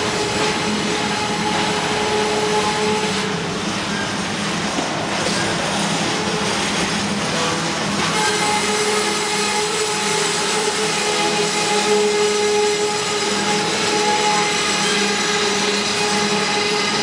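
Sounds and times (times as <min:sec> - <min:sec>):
rail cars rumbling past: 0:00.0 - 0:17.0.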